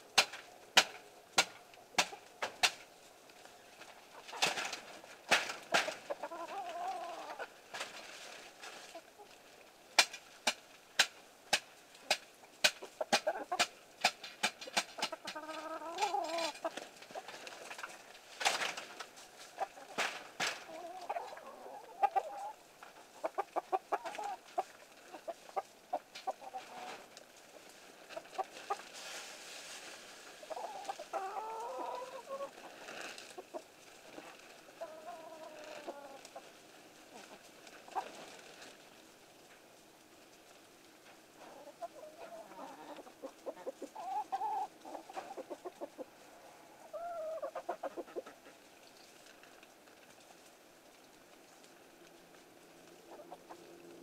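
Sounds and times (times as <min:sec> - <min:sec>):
chickens clucking: 0:00.0 - 0:29.0, 0:29.8 - 0:38.9, 0:41.3 - 0:49.3, 0:52.8 - 0:54.0
chickens pecking: 0:00.0 - 0:54.0.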